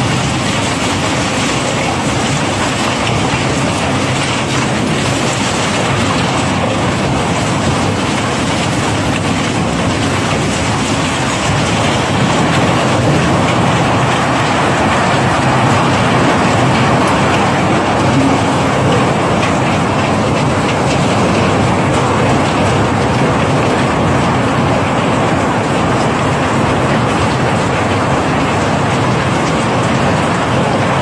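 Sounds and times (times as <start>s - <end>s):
low machinery rumble: 0.0s - 31.0s.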